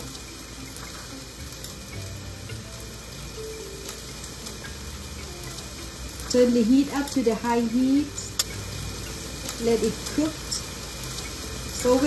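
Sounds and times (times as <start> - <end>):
noodles sizzling in a wok: 0.0 - 12.0.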